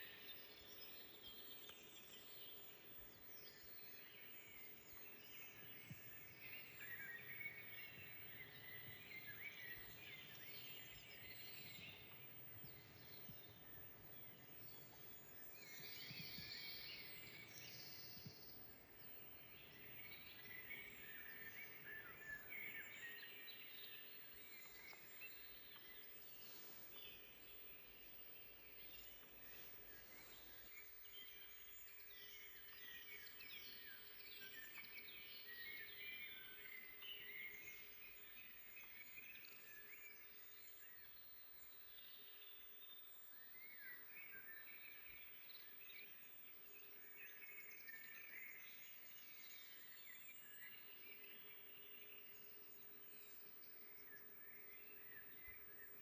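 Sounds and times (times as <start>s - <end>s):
distant songbirds singing: 0.0s - 56.0s.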